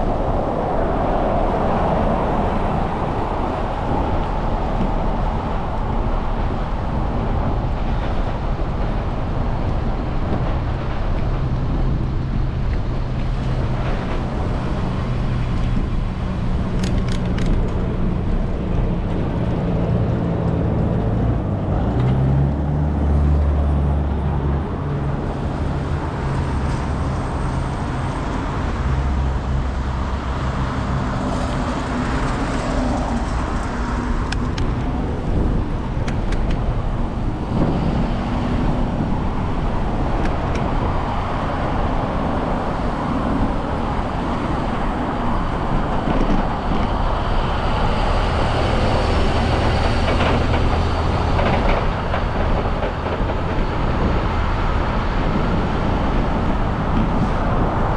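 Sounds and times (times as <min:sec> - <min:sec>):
road noise: 0:00.0 - 0:57.9
vehicle engines humming: 0:00.0 - 0:57.9.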